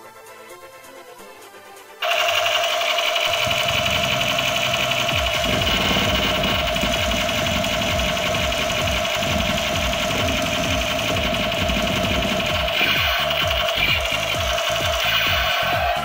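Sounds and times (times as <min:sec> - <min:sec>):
electronic music with buzzing drone: 0:02.0 - 0:16.0.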